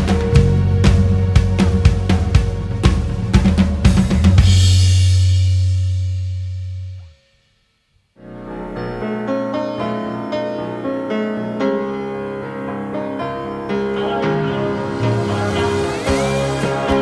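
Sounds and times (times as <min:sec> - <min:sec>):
keyboard playing over held chords: 0:00.0 - 0:05.4, 0:08.2 - 0:17.0.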